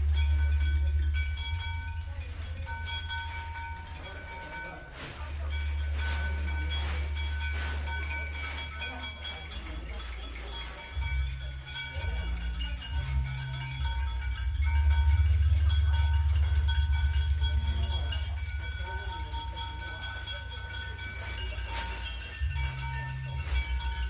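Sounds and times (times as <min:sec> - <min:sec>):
deep electronic drone: 0:00.0 - 0:08.4, 0:10.9 - 0:24.0
high metallic ringing tones: 0:00.0 - 0:24.0.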